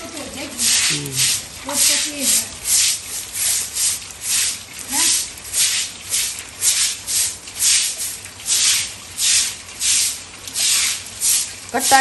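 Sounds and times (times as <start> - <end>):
broom sweeping water on concrete: 0.0 - 12.0.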